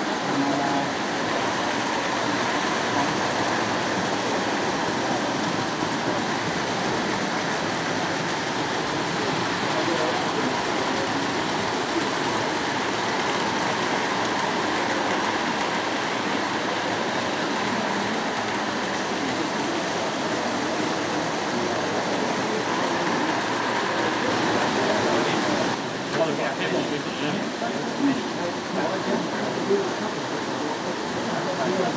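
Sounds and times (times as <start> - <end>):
model train wheels on rails: 0.0 - 31.9.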